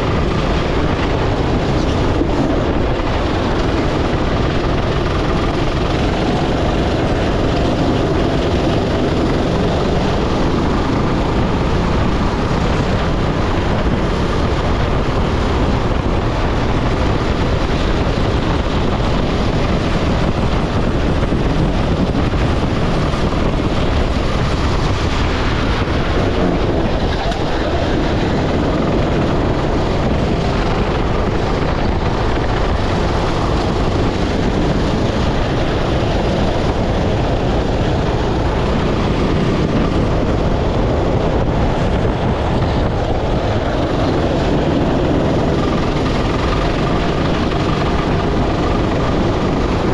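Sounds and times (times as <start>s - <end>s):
go-kart engine running: 0.0s - 49.9s
wind buffeting microphone: 0.0s - 49.9s.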